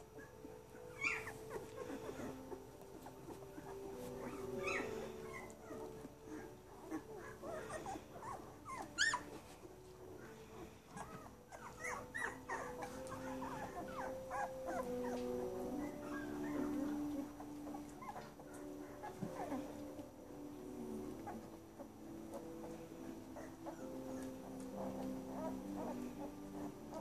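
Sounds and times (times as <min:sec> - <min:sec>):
puppies squeaking and whimpering: 0:00.0 - 0:20.0, 0:20.6 - 0:27.0.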